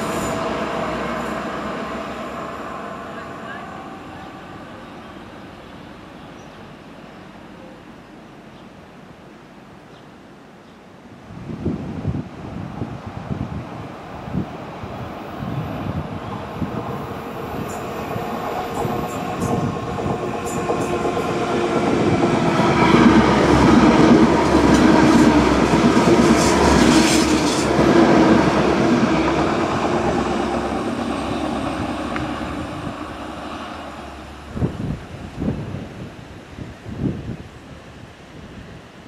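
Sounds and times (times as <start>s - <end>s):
diesel train passing: 0.0s - 9.6s, 12.4s - 36.8s.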